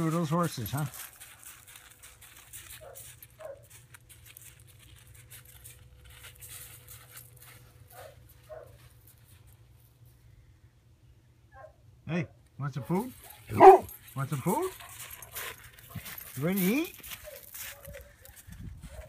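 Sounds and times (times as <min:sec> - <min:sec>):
footsteps on loose gravel: 0:00.0 - 0:10.1, 0:13.0 - 0:19.0.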